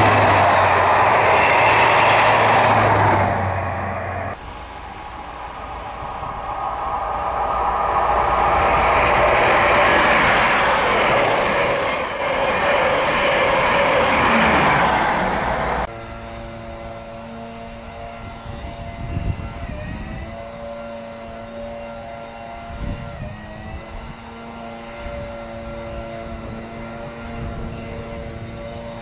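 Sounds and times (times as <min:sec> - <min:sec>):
distant diesel train drone: 0:00.0 - 0:29.0
high-speed train passing: 0:00.0 - 0:29.0.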